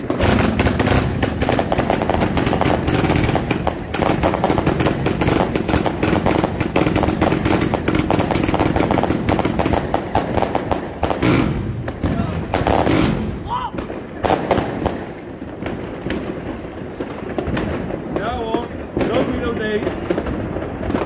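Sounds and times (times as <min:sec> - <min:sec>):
firecrackers banging: 0:00.0 - 0:21.0.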